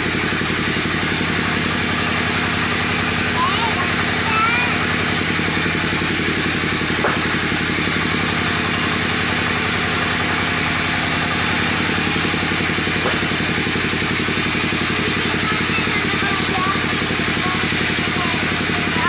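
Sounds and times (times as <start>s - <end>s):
small engine running wood saw: 0.0s - 19.0s.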